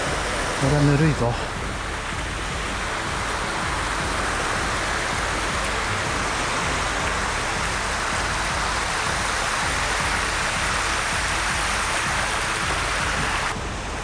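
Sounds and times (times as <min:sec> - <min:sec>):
water pouring down cascades: 0:00.0 - 0:14.0.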